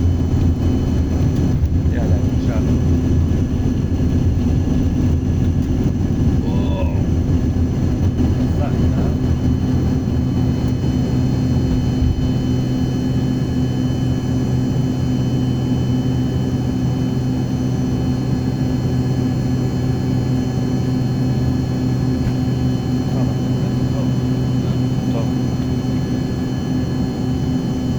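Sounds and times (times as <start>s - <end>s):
airliner cabin drone: 0.0s - 27.9s.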